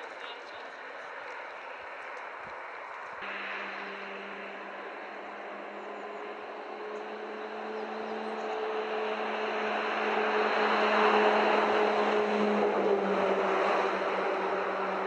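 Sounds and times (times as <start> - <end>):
motor vehicle passing by: 0.0 - 15.0.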